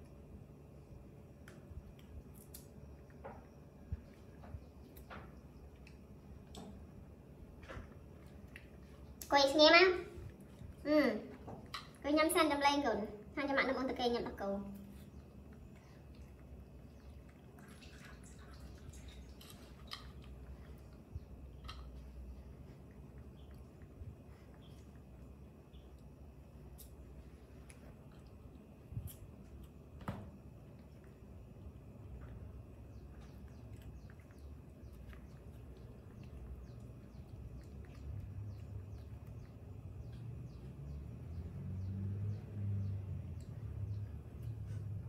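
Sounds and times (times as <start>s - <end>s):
low background rumble: 0.0s - 45.0s
small birds chirping: 0.0s - 45.0s.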